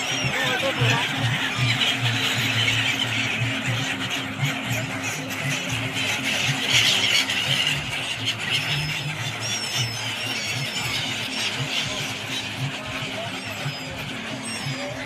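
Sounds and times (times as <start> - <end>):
flock of birds squealing: 0.0 - 15.0
steady low hum: 0.0 - 15.0.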